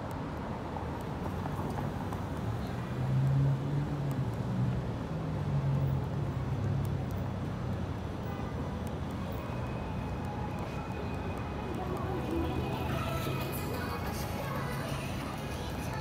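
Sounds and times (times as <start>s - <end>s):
hiss of passing traffic: 0.0s - 16.0s.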